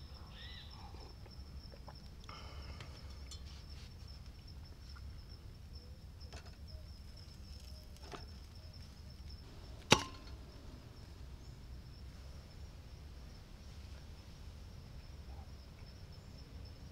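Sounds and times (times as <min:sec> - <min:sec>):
high insect drone: 0:00.0 - 0:16.9.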